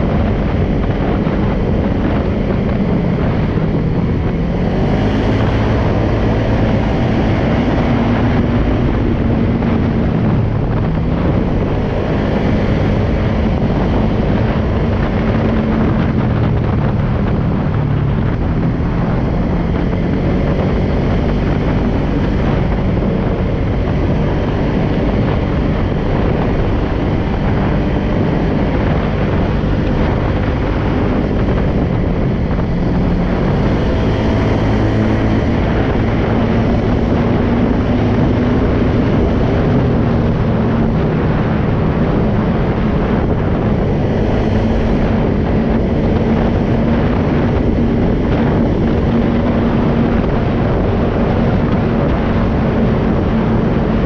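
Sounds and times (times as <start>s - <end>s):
atv engine running: 0.0s - 54.0s
wind on microphone: 0.0s - 54.0s.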